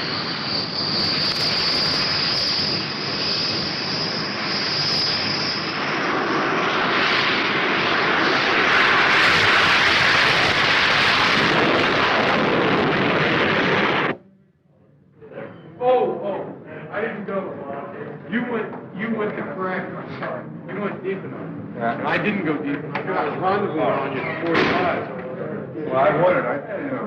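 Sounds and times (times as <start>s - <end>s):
jet engine rush: 0.0s - 14.2s, 16.4s - 27.0s
jet engine high whine: 0.0s - 27.0s.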